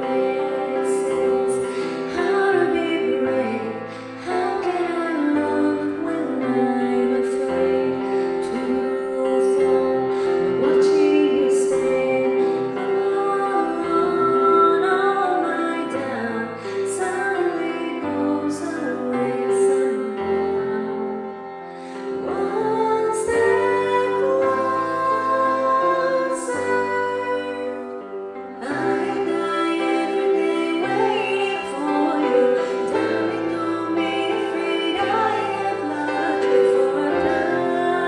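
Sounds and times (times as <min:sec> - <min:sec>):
woman singing: 0:00.0 - 0:38.0.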